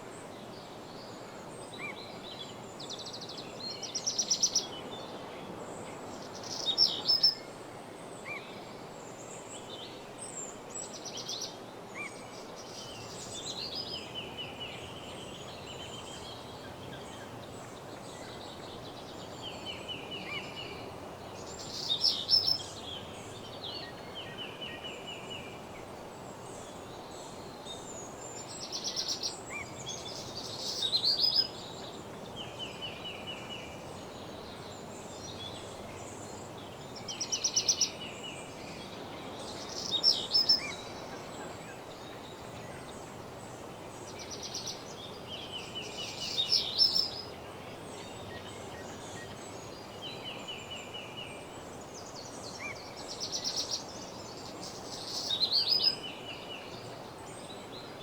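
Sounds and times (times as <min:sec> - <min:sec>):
small songbirds singing: 0:00.0 - 0:05.3, 0:05.9 - 0:07.5, 0:08.1 - 0:58.0
woodland ambience hiss: 0:00.0 - 0:58.0.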